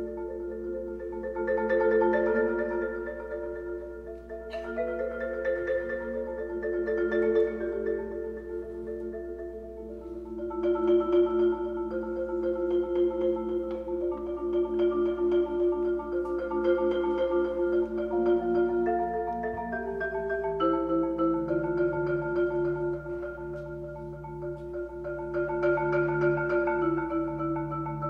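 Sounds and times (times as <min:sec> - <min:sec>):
marimba chords: 0:00.0 - 0:28.0.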